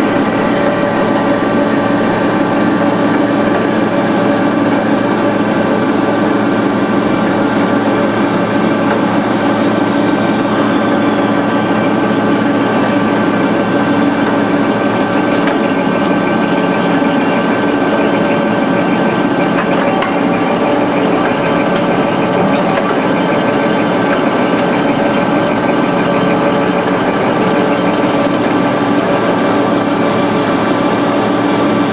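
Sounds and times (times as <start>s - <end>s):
band saw running: 0.0s - 31.9s.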